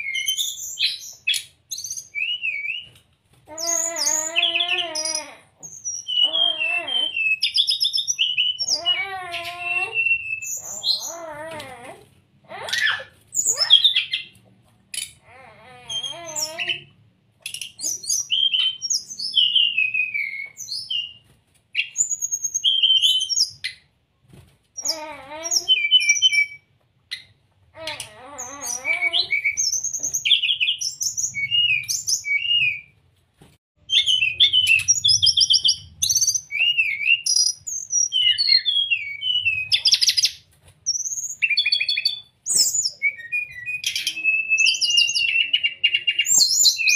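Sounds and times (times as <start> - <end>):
bird whistling song: 0.0 - 2.9, 3.6 - 11.6, 15.0 - 21.2, 21.8 - 23.8, 24.8 - 27.3, 28.4 - 32.9, 33.9 - 46.9.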